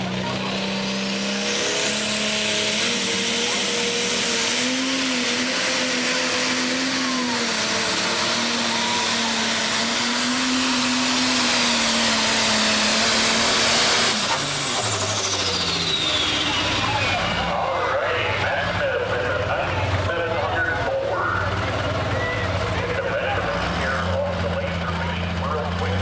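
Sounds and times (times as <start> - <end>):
diesel engine at full throttle: 0.0 - 26.0.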